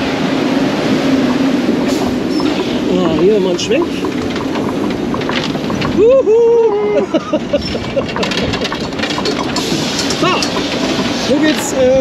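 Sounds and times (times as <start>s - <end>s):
rumble of rides: 0.0s - 12.0s.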